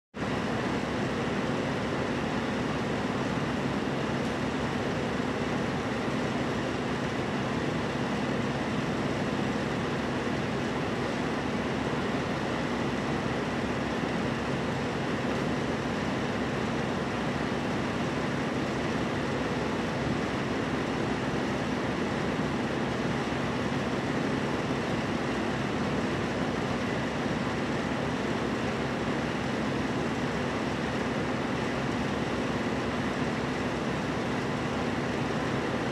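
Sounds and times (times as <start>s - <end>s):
room noise hum and hiss: 0.2s - 35.9s.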